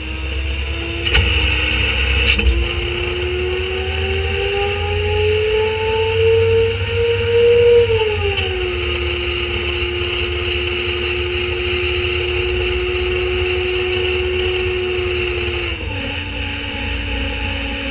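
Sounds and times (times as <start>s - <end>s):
diesel engine rumble: 0.0s - 17.9s
hydraulic whine: 0.0s - 17.9s.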